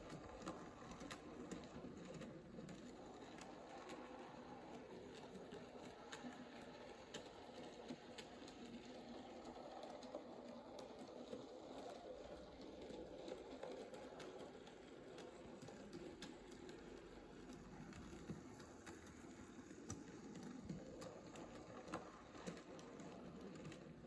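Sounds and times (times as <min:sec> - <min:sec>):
wheels clicking on rails: 0:00.0 - 0:24.0.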